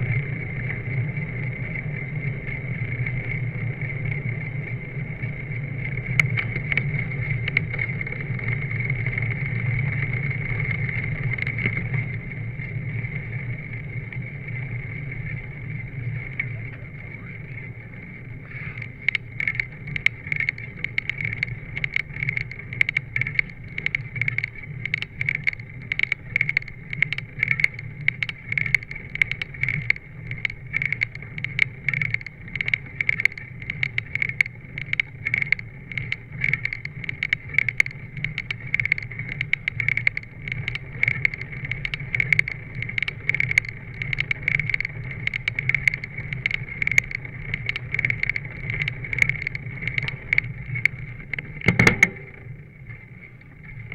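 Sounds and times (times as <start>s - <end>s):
bicycle clicks and knocks: 0.0s - 53.9s
tyres humming on coarse road: 0.0s - 53.9s.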